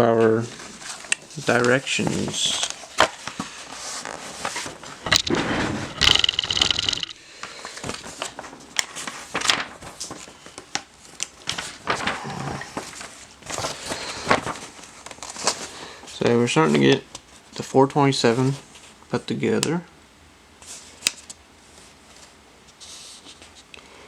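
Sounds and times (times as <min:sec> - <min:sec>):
paper rustling and crinkling: 0:00.4 - 0:17.5, 0:20.6 - 0:23.7.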